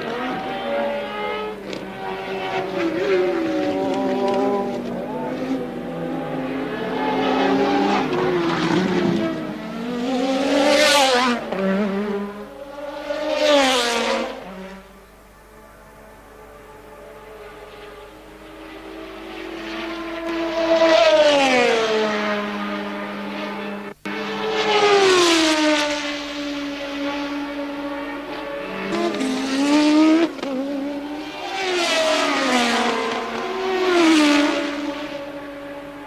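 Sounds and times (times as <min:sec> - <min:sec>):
racing cars passing: 0:00.0 - 0:36.0.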